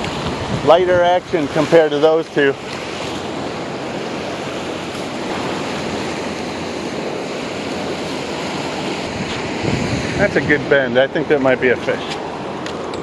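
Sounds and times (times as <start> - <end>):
surf breaking on beach: 0.0 - 12.9.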